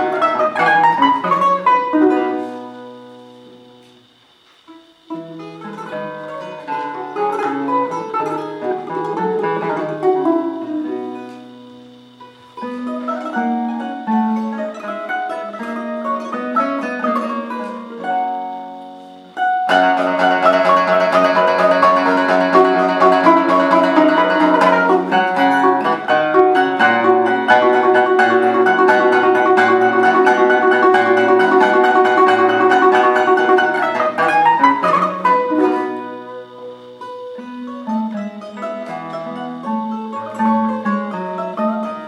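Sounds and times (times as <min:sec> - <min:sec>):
balalaika and guitar playing: 0:00.0 - 0:42.0.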